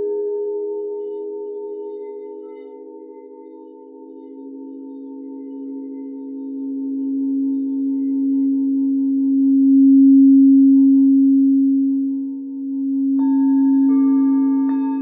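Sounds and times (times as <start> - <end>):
singing bowls ringing: 0.0 - 11.3, 12.6 - 15.0.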